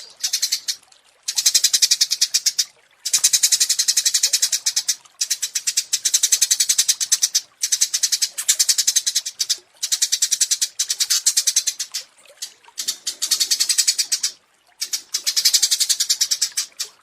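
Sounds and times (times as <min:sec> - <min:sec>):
songbirds trilling: 0:00.0 - 0:17.0.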